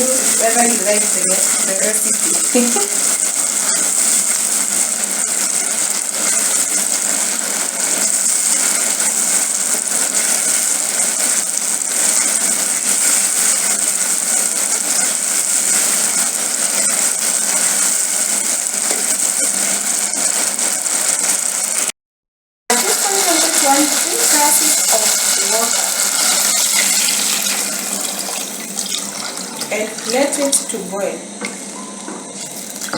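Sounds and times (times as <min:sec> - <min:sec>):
sauce sizzling in a hot pan: 0:00.0 - 0:21.9, 0:22.7 - 0:32.9.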